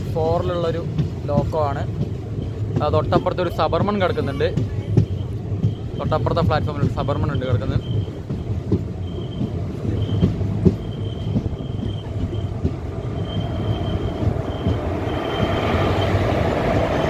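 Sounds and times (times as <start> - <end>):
oncoming electric locomotive: 0.0 - 17.0
train rumble: 0.0 - 17.0.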